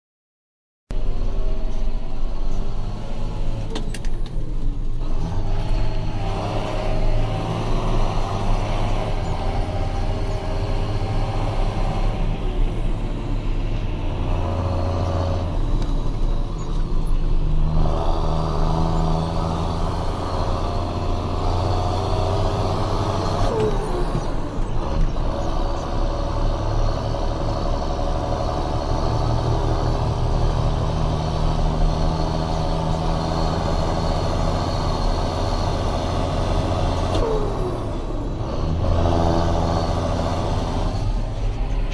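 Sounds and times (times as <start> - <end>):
tractor diesel engine running: 0.9 - 41.9.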